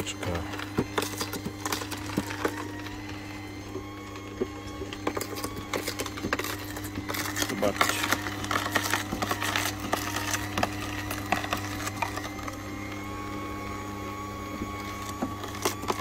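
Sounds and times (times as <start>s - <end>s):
juicer motor hum: 0.0s - 16.0s.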